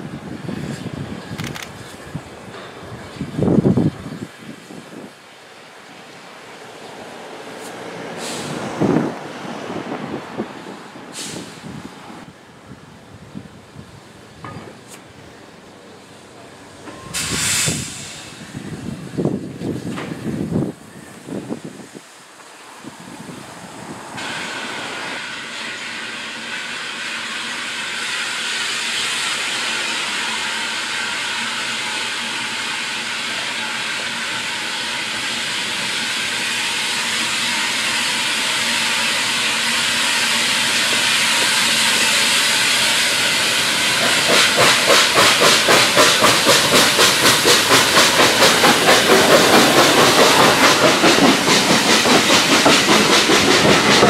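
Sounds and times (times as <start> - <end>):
steam hiss: 0.0 - 12.3, 16.9 - 54.0
steam locomotive chuffing past: 0.0 - 54.0.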